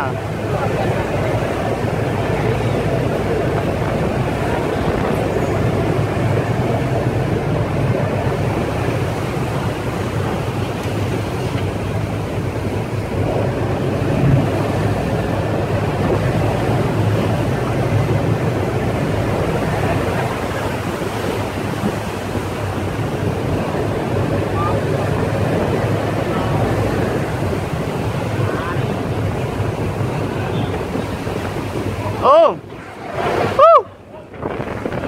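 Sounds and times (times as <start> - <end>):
boat engine humming: 0.0 - 35.0
sea churning against hull: 0.0 - 35.0
wind on microphone: 0.0 - 35.0.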